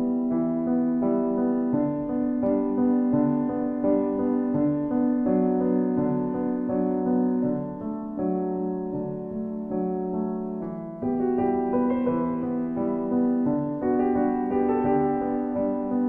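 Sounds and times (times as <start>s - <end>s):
background piano music: 0.0s - 16.0s.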